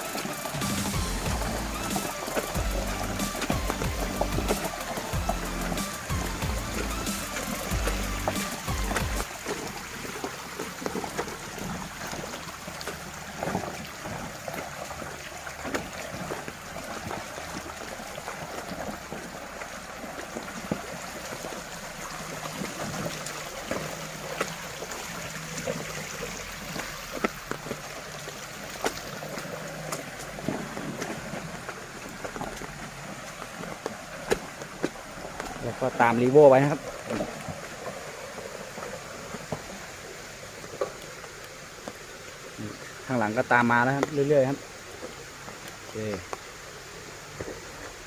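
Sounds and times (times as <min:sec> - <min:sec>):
rain hissing on wet road: 0:00.0 - 0:48.0.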